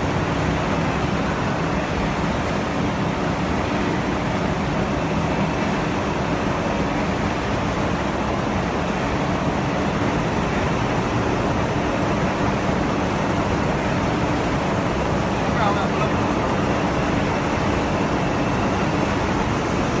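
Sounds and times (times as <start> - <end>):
low machine hum: 0.0 - 20.0
processing machinery rushing din: 0.0 - 20.0.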